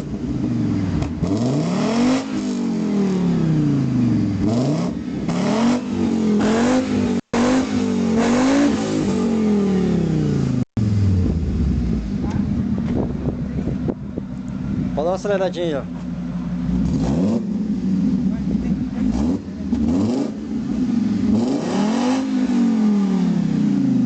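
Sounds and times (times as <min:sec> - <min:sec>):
car engine revving: 0:00.0 - 0:14.9, 0:15.9 - 0:24.0.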